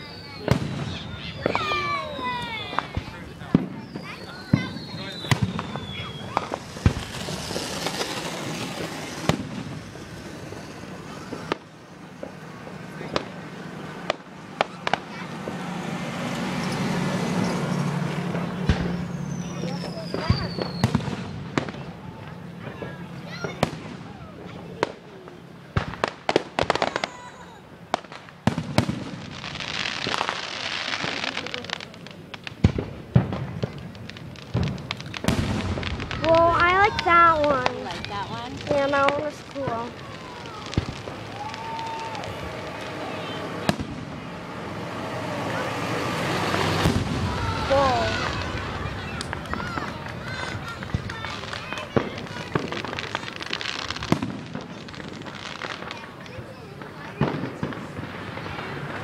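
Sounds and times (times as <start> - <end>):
firework shells bursting: 0.1 - 24.0, 24.8 - 59.0.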